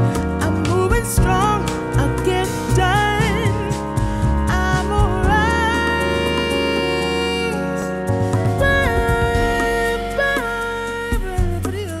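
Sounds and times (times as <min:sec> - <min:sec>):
pop-soul song with vocals: 0:00.0 - 0:12.0.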